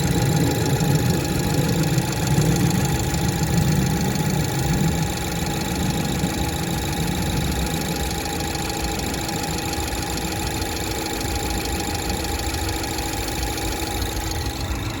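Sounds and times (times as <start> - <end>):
extraneous engine noises: 0.0 - 15.0.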